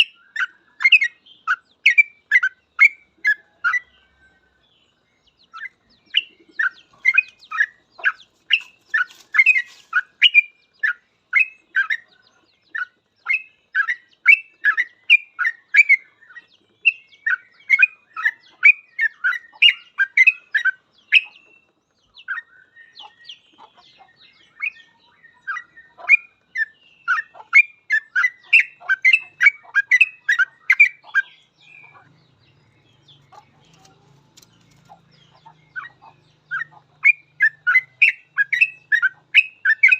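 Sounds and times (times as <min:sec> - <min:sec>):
bird singing rapid notes: 0:00.0 - 0:39.9.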